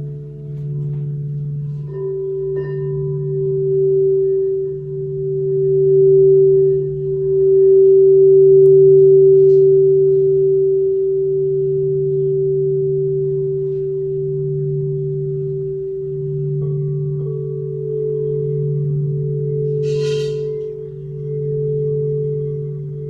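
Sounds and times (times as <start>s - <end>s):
crystal singing bowls ringing: 0.0s - 23.0s.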